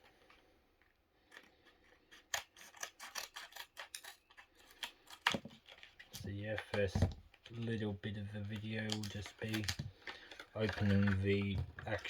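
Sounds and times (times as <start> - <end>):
scissors cutting packaging: 1.2 - 12.0.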